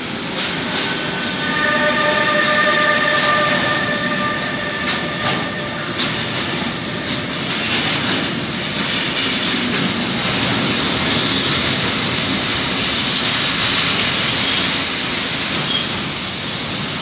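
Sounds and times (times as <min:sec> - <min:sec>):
electric locomotive whine: 0:00.0 - 0:17.0
train wheels rumbling on rail: 0:00.0 - 0:17.0.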